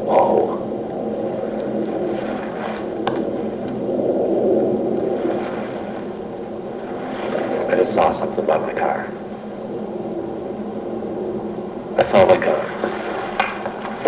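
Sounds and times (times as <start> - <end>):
recording hum and hiss: 0.0 - 14.0.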